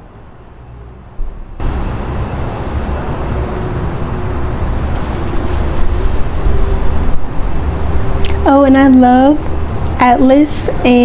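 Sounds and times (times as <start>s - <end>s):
wind buffeting a microphone: 1.2s - 11.0s.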